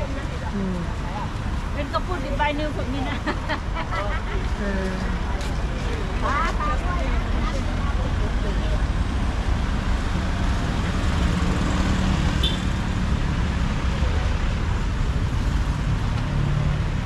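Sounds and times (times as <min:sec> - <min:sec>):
engines passing: 0:00.0 - 0:17.0
traffic road noise: 0:00.0 - 0:17.0.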